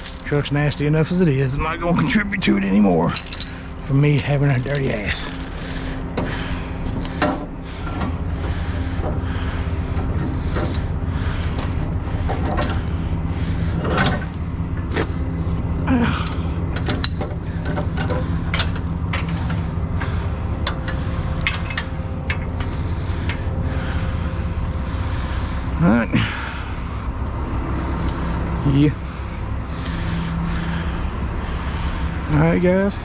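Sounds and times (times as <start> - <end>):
truck diesel engine idling: 0.0 - 33.0.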